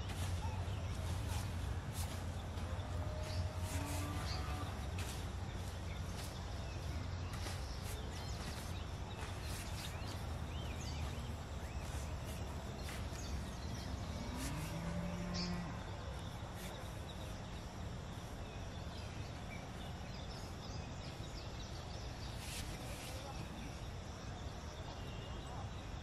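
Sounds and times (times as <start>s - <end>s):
birds chirping: 0.0s - 26.0s
outdoor background noise: 0.0s - 26.0s.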